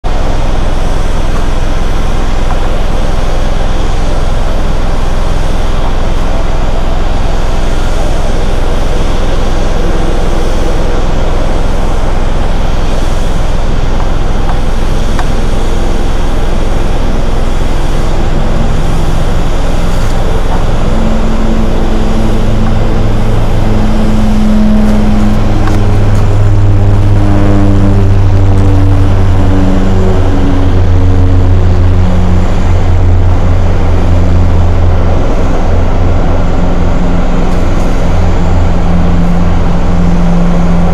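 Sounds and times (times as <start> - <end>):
propeller airliner drone: 0.0 - 40.9
steady low rumble: 0.0 - 40.9.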